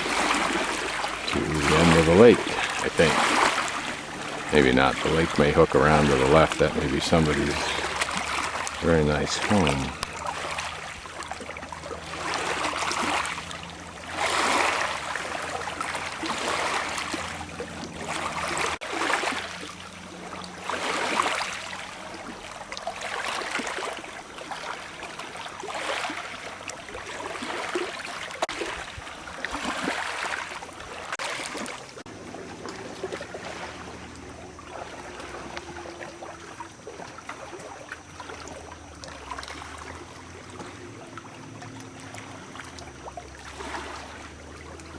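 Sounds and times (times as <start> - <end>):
small waves lapping on pebbles: 0.0 - 44.9.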